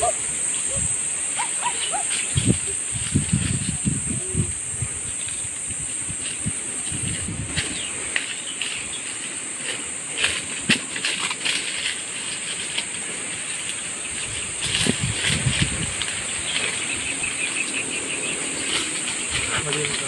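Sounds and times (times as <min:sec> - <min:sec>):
leaves and twigs rustling: 0:00.0 - 0:20.0
steady high hiss: 0:00.0 - 0:20.0.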